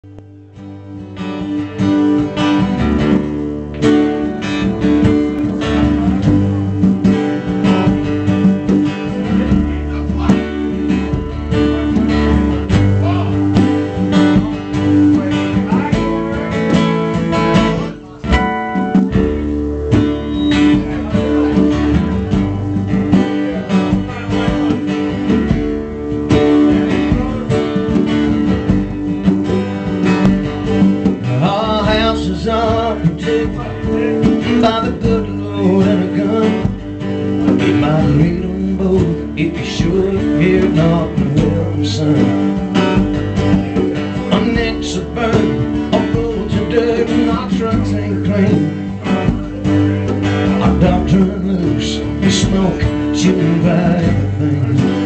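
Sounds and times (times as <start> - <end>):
bass line: 0.0 - 55.0
strummed acoustic guitar: 0.0 - 55.0.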